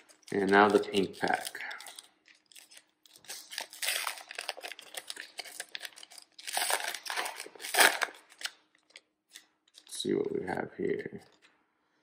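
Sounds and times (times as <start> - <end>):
foil wrapper crinkling and tearing: 0.0 - 10.1.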